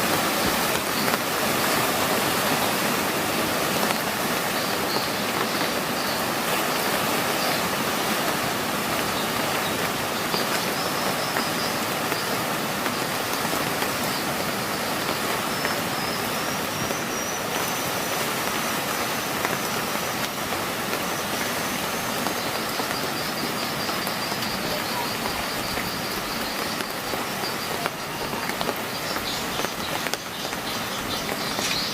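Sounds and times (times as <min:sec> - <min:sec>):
heavy rain: 0:00.0 - 0:31.9
rushing river water: 0:00.0 - 0:31.9.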